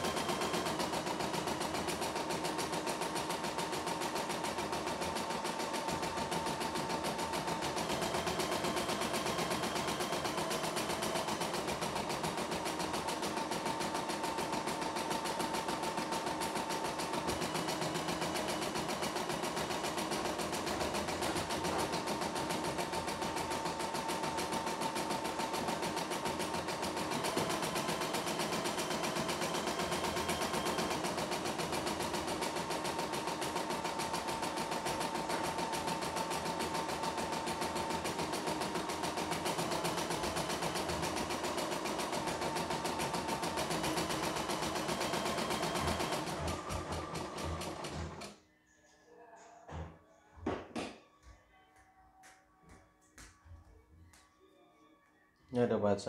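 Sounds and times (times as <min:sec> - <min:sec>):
embroidery machine stitching: 0:00.0 - 0:48.4.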